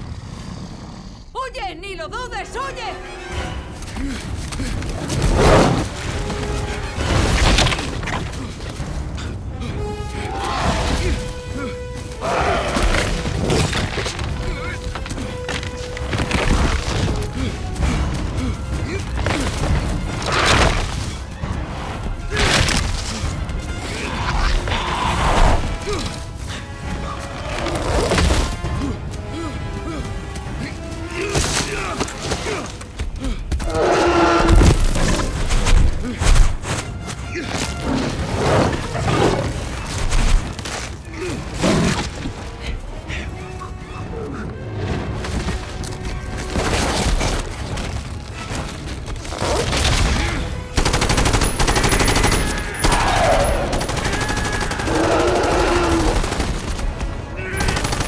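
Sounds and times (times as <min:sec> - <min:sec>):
action film music: 0:01.2 - 0:58.0.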